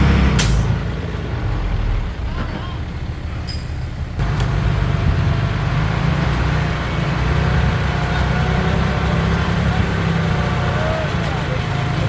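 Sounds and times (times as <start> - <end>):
heavy diesel machinery engine: 0.0 - 12.0.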